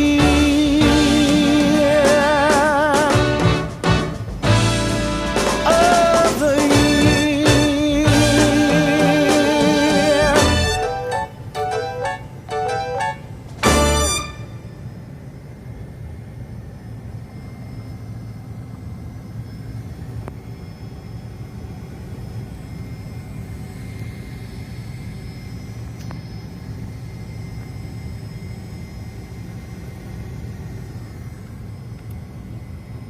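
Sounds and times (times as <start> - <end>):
faint high whine: 0.0 - 33.0.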